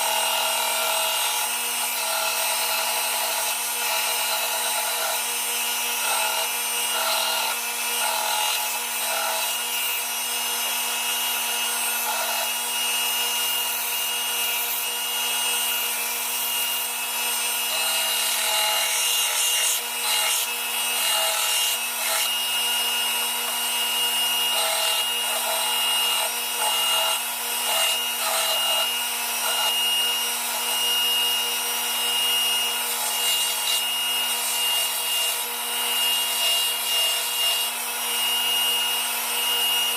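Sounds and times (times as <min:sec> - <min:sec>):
power sander grinding: 0:00.0 - 0:39.9.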